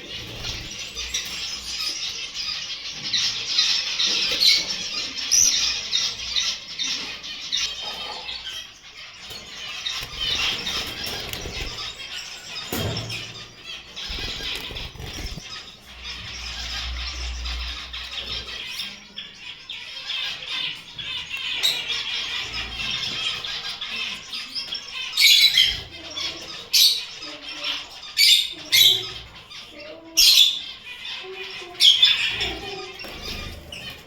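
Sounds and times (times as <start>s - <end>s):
finches chirping: 0.0s - 34.0s
sharp bird calls: 0.0s - 34.0s.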